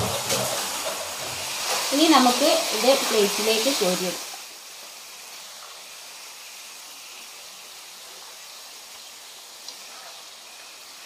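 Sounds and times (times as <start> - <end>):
potatoes deep-frying in oil: 0.0 - 11.0.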